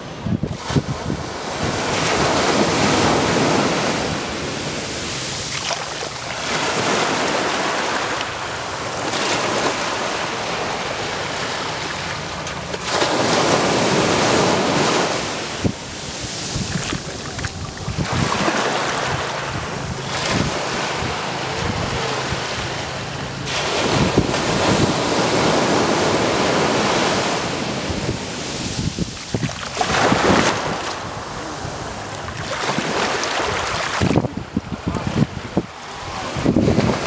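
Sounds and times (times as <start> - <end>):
wind buffeting microphone: 0.0 - 7.7, 13.1 - 37.0
small waves breaking on sand: 0.0 - 37.0.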